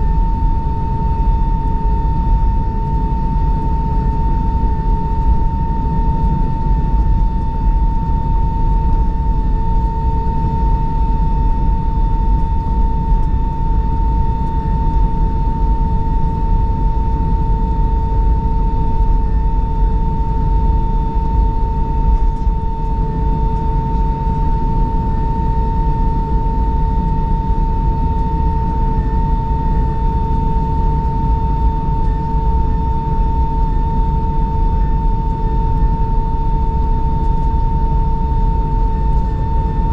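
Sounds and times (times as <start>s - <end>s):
airplane cabin rumble: 0.0s - 39.9s
high-pitched whine: 0.0s - 39.9s.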